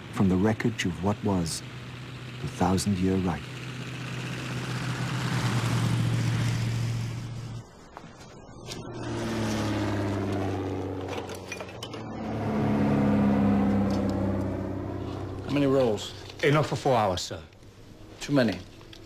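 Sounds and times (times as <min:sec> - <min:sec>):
propeller plane flying overhead: 0:00.0 - 0:19.0.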